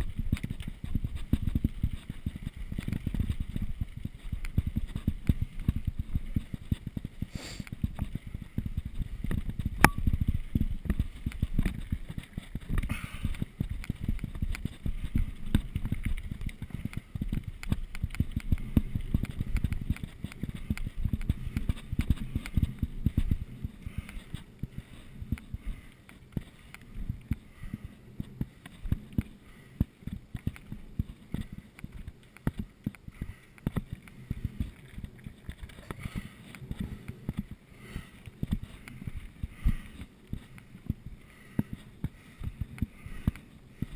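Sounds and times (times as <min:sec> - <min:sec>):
bicycle rattling over rough track: 0:00.0 - 0:43.9.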